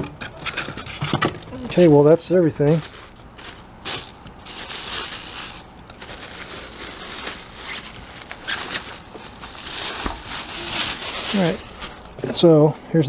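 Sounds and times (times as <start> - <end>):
plastic bag crinkling: 1.4 - 12.4.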